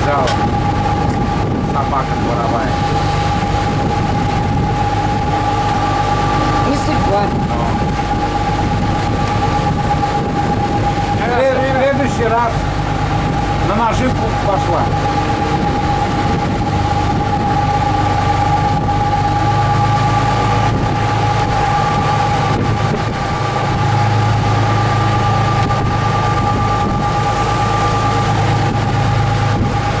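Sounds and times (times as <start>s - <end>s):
boat engines droning: 0.0s - 30.0s
engine whine: 0.0s - 30.0s
rush of boat wake: 0.0s - 30.0s.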